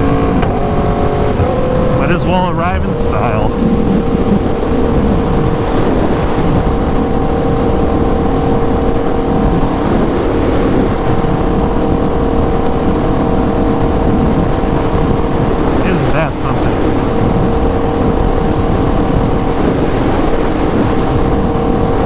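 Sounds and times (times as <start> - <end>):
motorcycle engine cruising: 0.0 - 22.0
wind rushing over microphone: 0.0 - 22.0.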